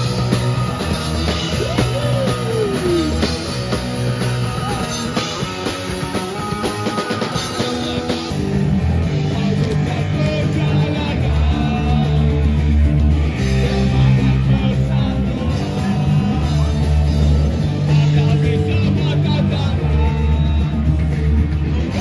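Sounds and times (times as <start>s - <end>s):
drums: 0.0s - 22.0s
electric guitar: 0.0s - 22.0s
person singing: 1.2s - 8.3s, 9.1s - 12.6s, 13.4s - 22.0s.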